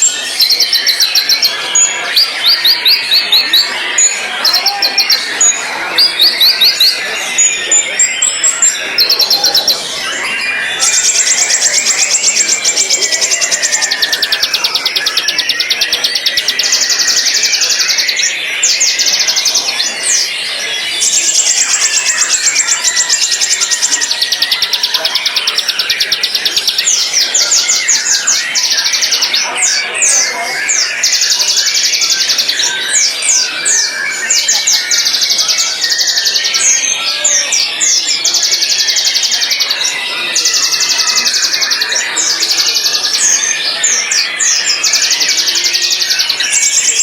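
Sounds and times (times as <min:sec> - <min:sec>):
rapid repeated high bird notes: 0:00.0 - 0:47.0.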